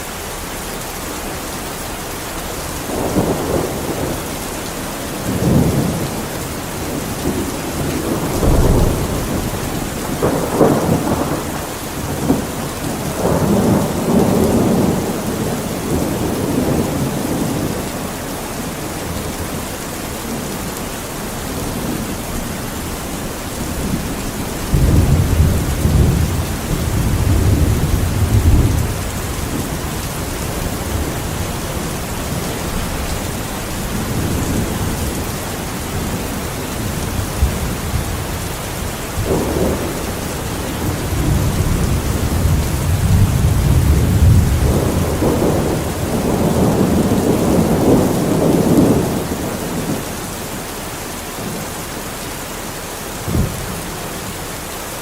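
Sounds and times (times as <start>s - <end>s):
heavy rain: 0.0s - 55.0s
thunder rumbling: 2.4s - 50.7s, 53.2s - 54.5s.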